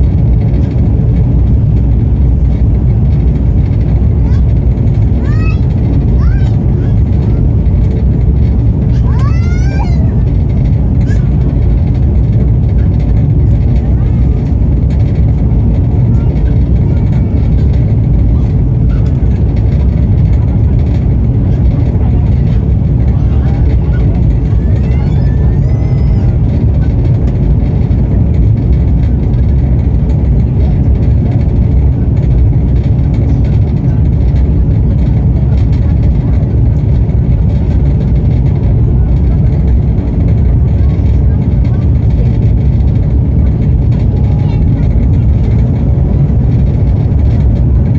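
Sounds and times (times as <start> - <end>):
train rumbling: 0.0 - 47.9.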